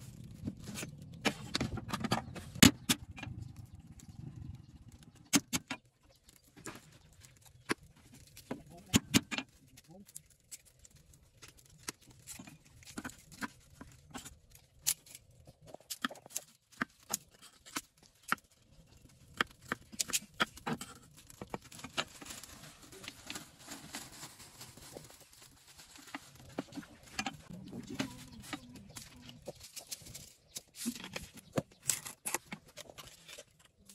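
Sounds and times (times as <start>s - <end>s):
rustling of garlic skins: 0.0s - 5.2s, 5.9s - 33.9s.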